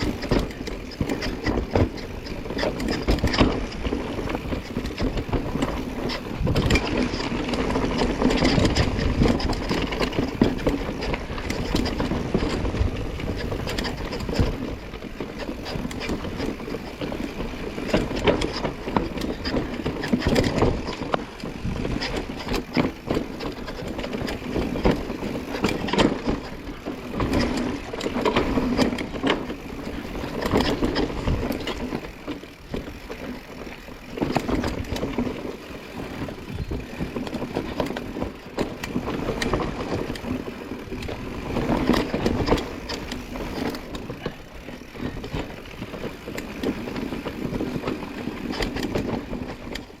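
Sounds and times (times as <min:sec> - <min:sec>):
bike knocking and rattling: 0:00.0 - 0:50.0
bike tyres rolling over rough ground: 0:00.0 - 0:50.0.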